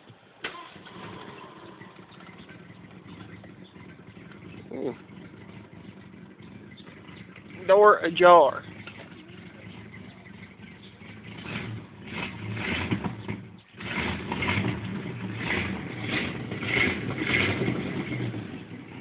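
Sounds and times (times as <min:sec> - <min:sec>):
car engine idling unevenly: 0:00.0 - 0:19.0.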